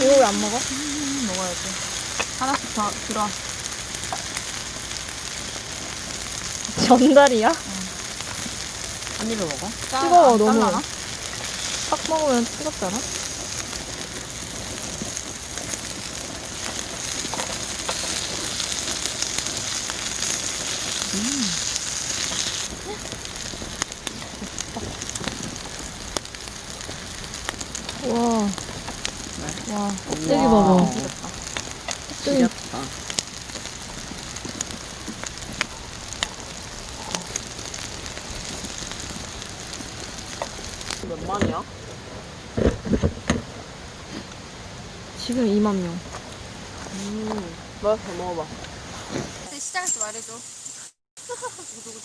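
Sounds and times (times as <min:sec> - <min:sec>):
campfire crackling with pops: 0:00.0 - 0:50.4
food sizzling over wood fire: 0:00.0 - 0:52.0.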